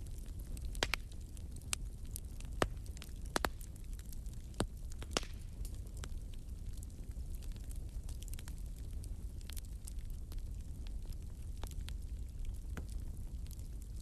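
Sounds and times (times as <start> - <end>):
low fire rumble: 0.0 - 14.0
wood fire crackling and popping: 0.0 - 14.0.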